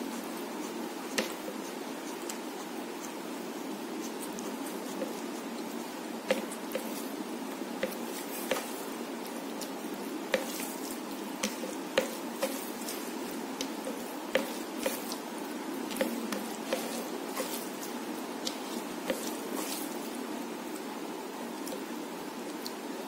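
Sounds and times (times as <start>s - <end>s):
fingers squishing wet food: 0.0s - 22.8s.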